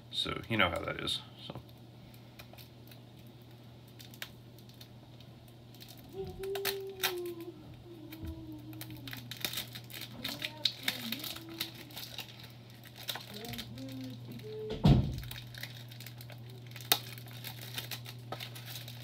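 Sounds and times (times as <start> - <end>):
steady low hum: 0.0 - 19.0
plastic shrink wrap crinkling: 1.6 - 19.0.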